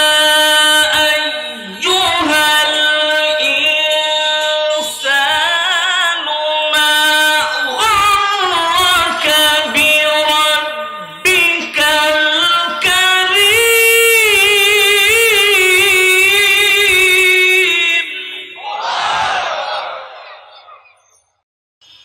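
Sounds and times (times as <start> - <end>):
man reciting melodically: 0.0 - 18.6.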